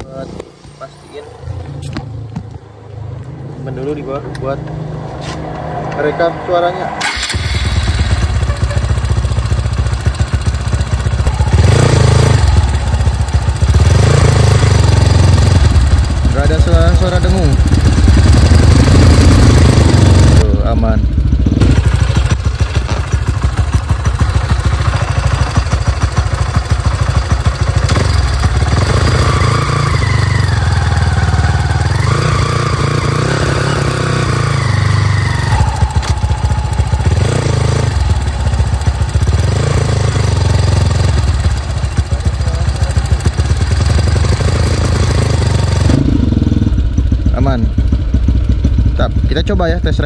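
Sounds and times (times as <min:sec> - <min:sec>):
motorcycle engine running: 0:07.0 - 0:50.0.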